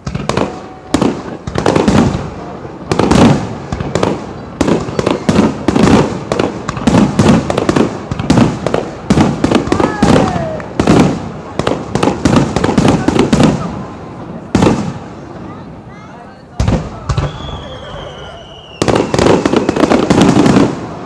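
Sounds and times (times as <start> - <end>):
fireworks booming: 0.0 - 21.0.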